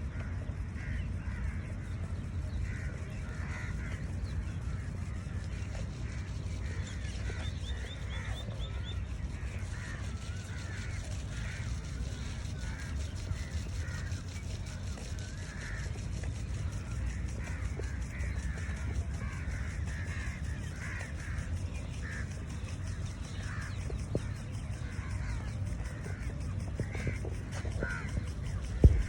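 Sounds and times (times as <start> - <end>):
birds calling: 0.0 - 29.0
steady low rumble: 0.0 - 29.0.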